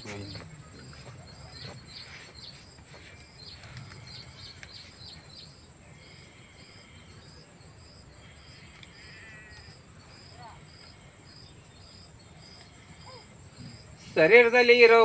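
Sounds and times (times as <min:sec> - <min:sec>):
bird calls: 0:00.0 - 0:14.2
high insect drone: 0:00.0 - 0:15.0.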